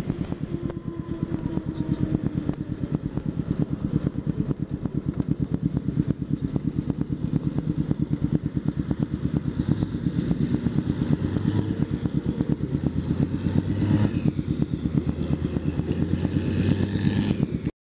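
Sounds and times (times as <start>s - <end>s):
motorcycle engine cruising: 0.0s - 17.7s
wind noise on microphone: 0.0s - 17.7s.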